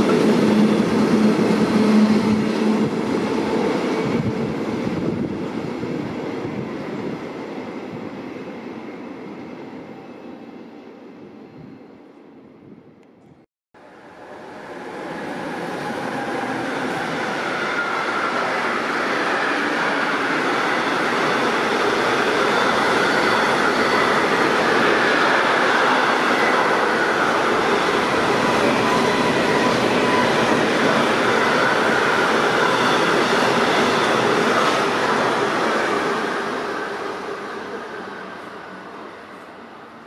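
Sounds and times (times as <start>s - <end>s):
freight train wagons on rails: 0.0s - 7.2s, 14.4s - 39.8s.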